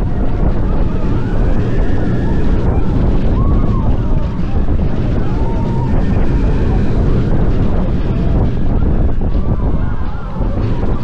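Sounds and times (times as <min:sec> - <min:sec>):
roller coaster train rumble: 0:00.0 - 0:11.0
wind rushing over microphone: 0:00.0 - 0:11.0.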